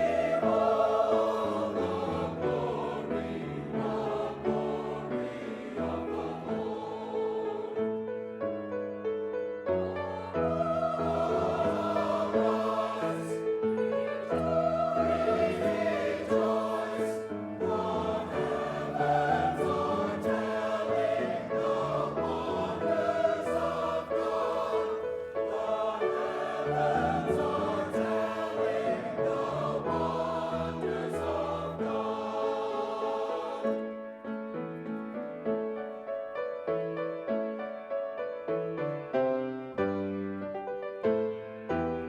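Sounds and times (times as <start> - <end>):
choir singing a sacred piece: 0.0 - 36.0.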